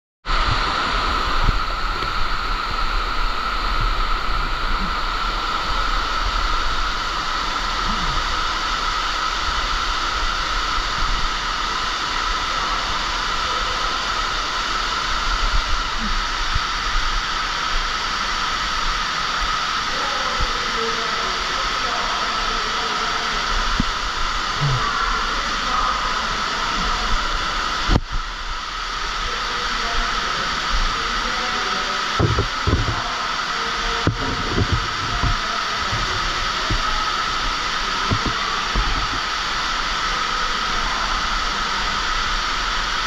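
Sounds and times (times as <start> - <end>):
underground waterfall rushing: 0.2 - 43.0.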